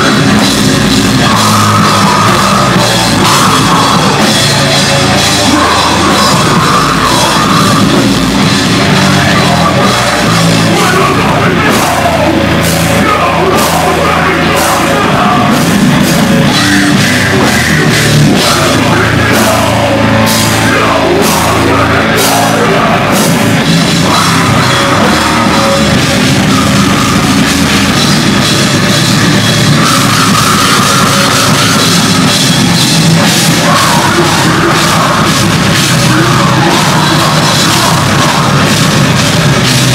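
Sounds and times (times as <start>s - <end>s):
deathcore band playing loud: 0.0s - 39.9s.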